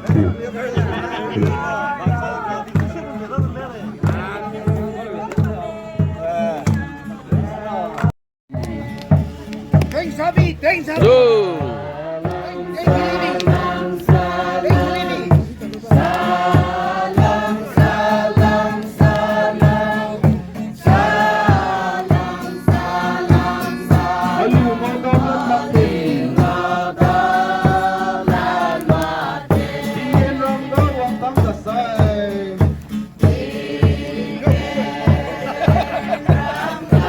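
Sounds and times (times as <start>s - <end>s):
low thumping beat: 0.0s - 7.6s, 8.5s - 37.0s
group singing: 0.0s - 9.8s, 11.0s - 37.0s.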